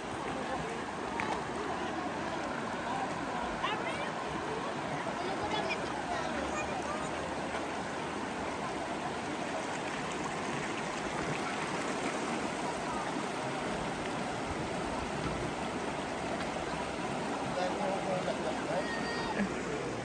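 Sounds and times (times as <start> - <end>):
river water rushing over rocks: 0.0 - 20.0.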